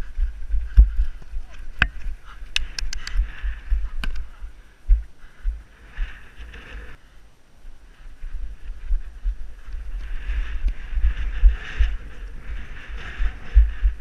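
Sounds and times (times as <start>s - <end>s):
wind buffeting microphone: 0.0s - 7.0s, 7.8s - 14.0s.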